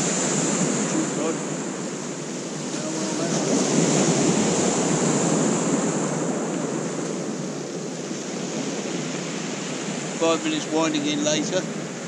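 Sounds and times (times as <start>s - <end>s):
surf washing up shingle beach: 0.0s - 12.0s.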